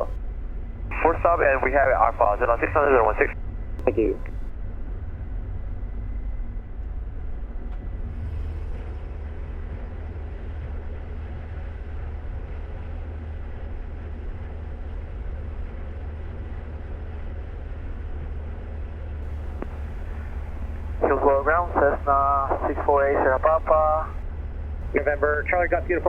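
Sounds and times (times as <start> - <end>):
light aircraft engine drone: 0.0 - 26.0.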